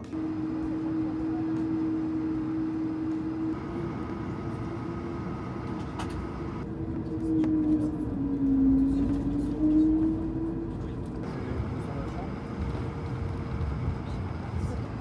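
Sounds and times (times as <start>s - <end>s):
jet engines humming tone: 0.0s - 8.6s, 11.1s - 15.0s.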